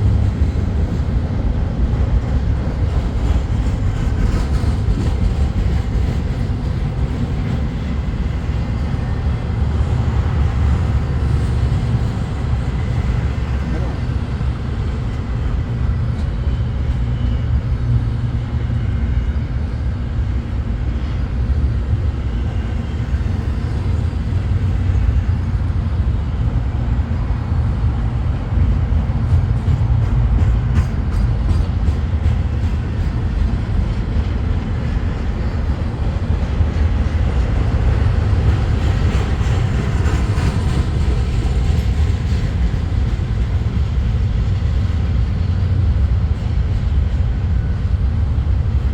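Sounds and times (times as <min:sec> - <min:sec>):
freight train rumbling past: 0:00.0 - 0:48.9.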